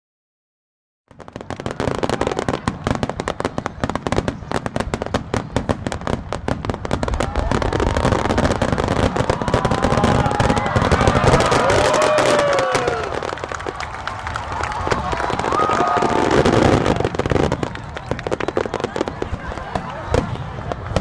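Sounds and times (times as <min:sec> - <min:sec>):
fireworks crackling: 0:01.1 - 0:21.0.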